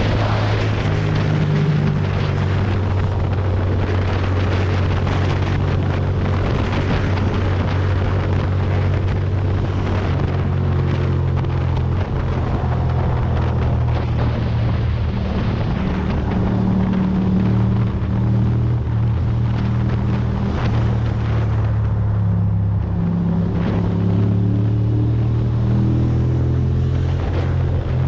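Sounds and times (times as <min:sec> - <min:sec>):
motorcycle engine cruising: 0:00.0 - 0:28.0
wind and road noise: 0:00.0 - 0:28.0.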